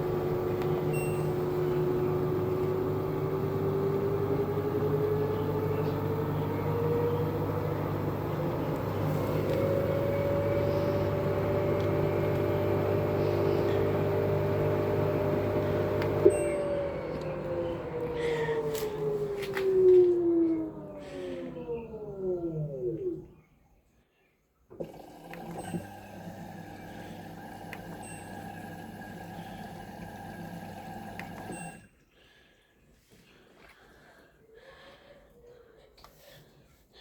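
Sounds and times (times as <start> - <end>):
washing machine motor whine: 0.0 - 23.4, 24.7 - 31.9.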